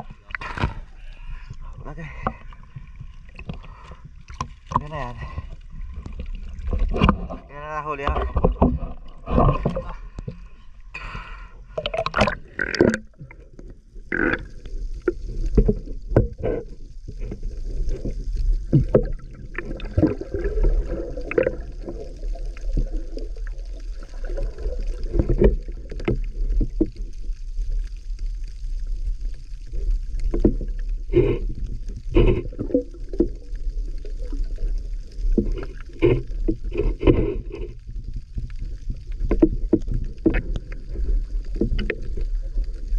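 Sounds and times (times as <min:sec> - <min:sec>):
deep underwater rumble: 0:00.0 - 0:42.9
muffled underwater churning: 0:00.0 - 0:42.9
water splashing and draining: 0:02.1 - 0:10.4, 0:11.7 - 0:42.9.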